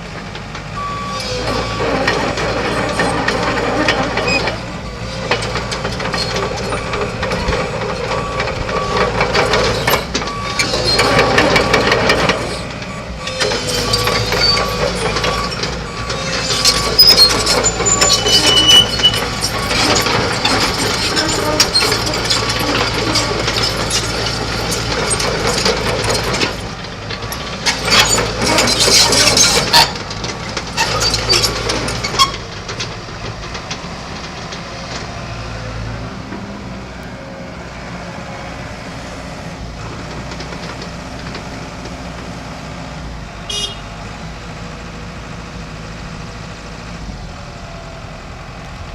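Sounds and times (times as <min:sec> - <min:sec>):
excavator clanks and knocks: 0:00.0 - 0:36.7, 0:39.6 - 0:44.6
excavator diesel engine drone: 0:00.0 - 0:48.9.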